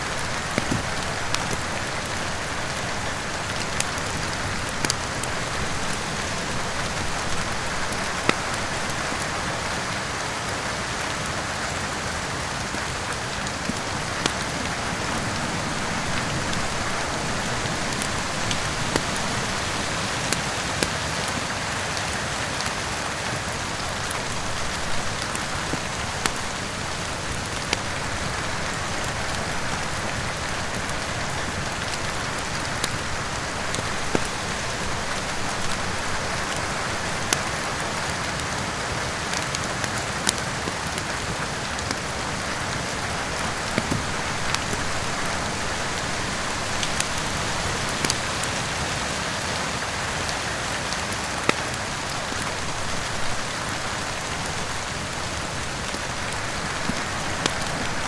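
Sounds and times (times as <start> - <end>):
rain hiss: 0.0 - 58.0
wood fire crackling: 0.0 - 58.0
sharp fire pops: 0.1 - 9.4, 12.7 - 22.2, 23.5 - 38.6, 39.3 - 48.6, 51.3 - 58.0.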